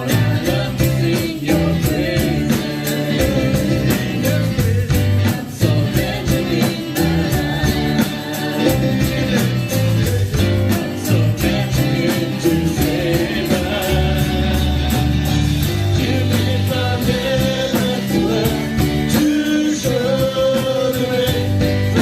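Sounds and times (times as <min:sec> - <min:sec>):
band with guitar and beat: 0:00.0 - 0:22.0
gospel singing: 0:00.0 - 0:22.0.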